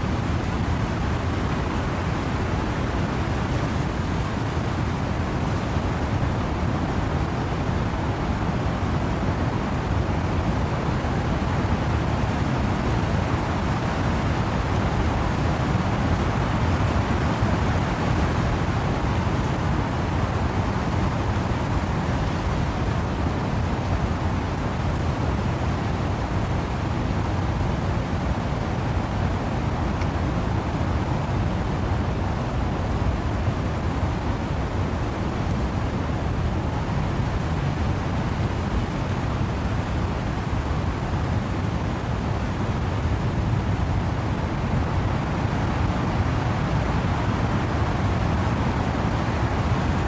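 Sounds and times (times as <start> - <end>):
wind and rain through trees: 0.0 - 50.0.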